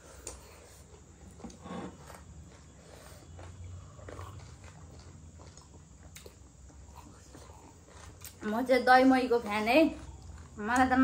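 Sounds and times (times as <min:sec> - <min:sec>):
people chewing: 0:00.0 - 0:11.0
steady low hum: 0:00.0 - 0:11.0.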